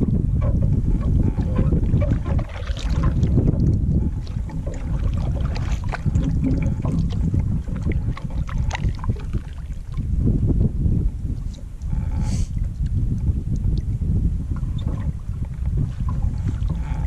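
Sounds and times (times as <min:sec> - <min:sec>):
paddle knocks and splashes: 0:00.0 - 0:11.8, 0:12.6 - 0:17.0
wind rumbling on microphone: 0:00.0 - 0:17.0.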